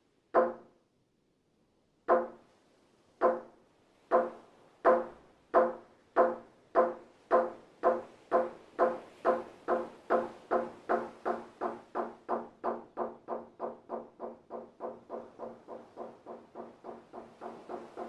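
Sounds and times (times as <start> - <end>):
wooden plank struck with mallet: 0.4 - 0.7, 2.1 - 2.4, 3.2 - 3.5, 4.1 - 18.0.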